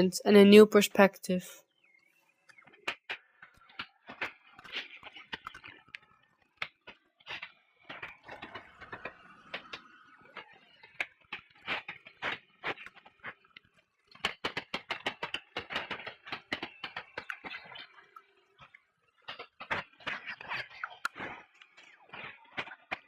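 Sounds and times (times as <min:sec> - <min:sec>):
sharp clicks and crackles: 0:02.4 - 0:23.0.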